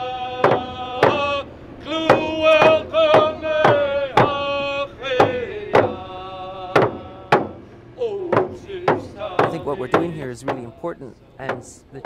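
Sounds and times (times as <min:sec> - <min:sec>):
voices chanting: 0:00.0 - 0:12.0
drum beats: 0:00.4 - 0:01.4, 0:02.0 - 0:06.1, 0:06.7 - 0:12.0.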